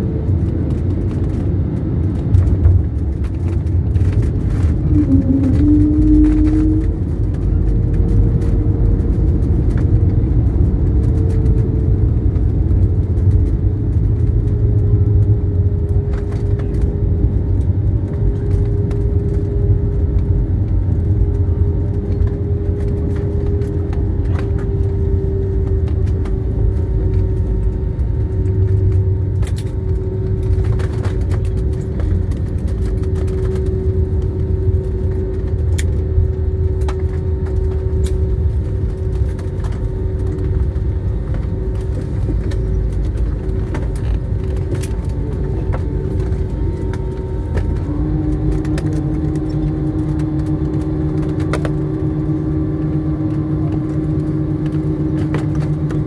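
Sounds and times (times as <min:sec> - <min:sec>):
airliner cabin engine rumble: 0:00.0 - 0:56.0
constant hum: 0:00.0 - 0:56.0.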